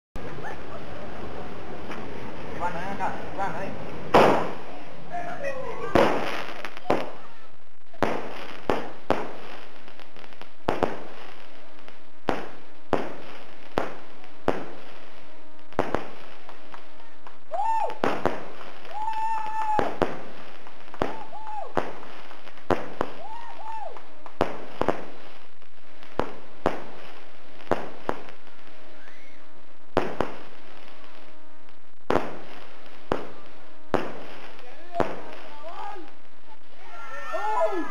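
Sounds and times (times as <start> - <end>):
firework bangs: 0.2 - 37.9
firework whistling: 0.3 - 37.9.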